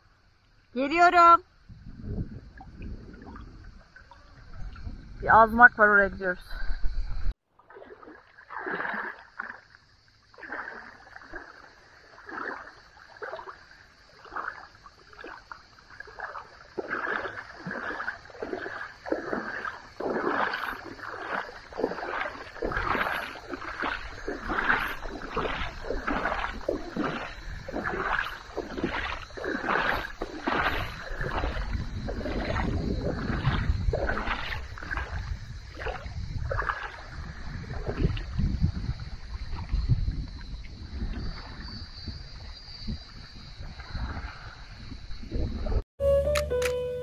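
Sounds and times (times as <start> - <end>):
paddle strokes splashing water: 2.4 - 6.0, 7.4 - 44.8.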